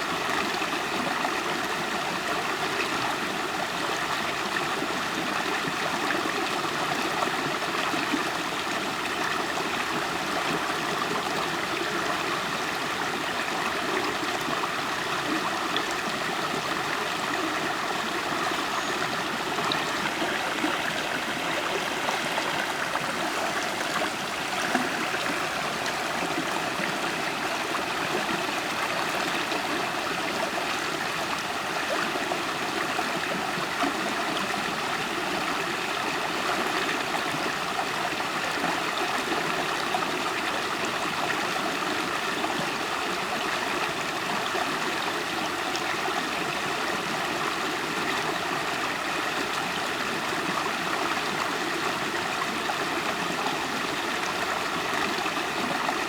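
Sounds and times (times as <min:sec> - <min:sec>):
river water flowing and gurgling: 0:00.0 - 0:56.0.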